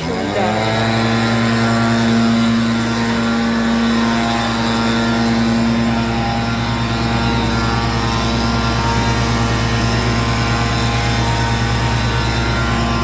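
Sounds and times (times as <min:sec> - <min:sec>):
engine running loudly: 0:00.0 - 0:13.0.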